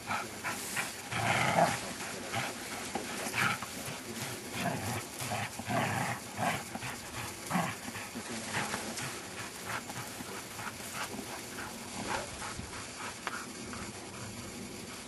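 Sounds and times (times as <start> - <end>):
dog growling: 0.0 - 14.7.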